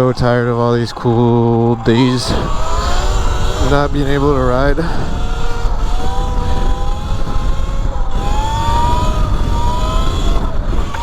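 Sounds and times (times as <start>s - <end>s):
electric motorbike motor whine: 0.0s - 11.0s
wind rumble on microphone: 0.0s - 11.0s.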